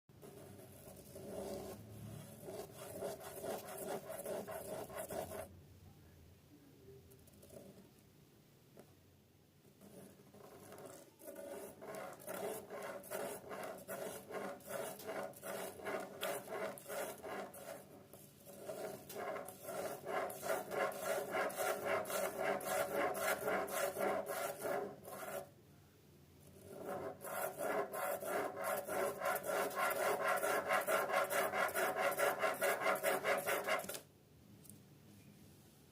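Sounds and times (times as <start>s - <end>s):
pen scraping on paper: 0.2s - 5.5s, 7.3s - 7.8s, 9.8s - 25.5s, 26.4s - 34.0s.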